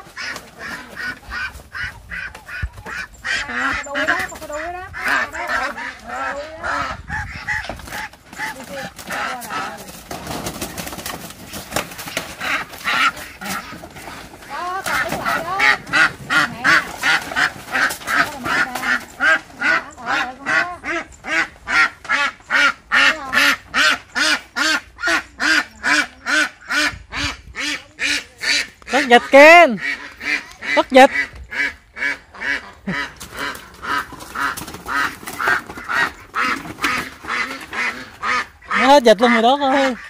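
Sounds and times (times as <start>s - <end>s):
ducks quacking: 0.0s - 40.0s.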